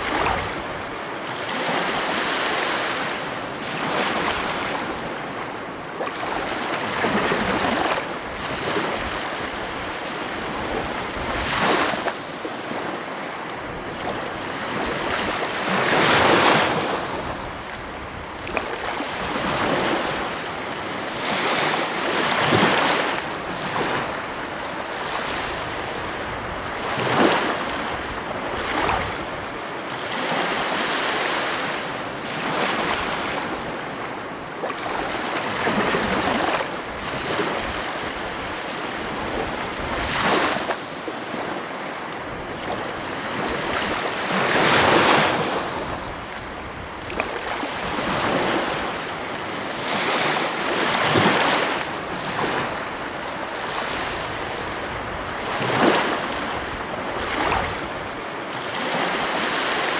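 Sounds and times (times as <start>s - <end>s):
ocean waves crashing: 0.0s - 59.9s.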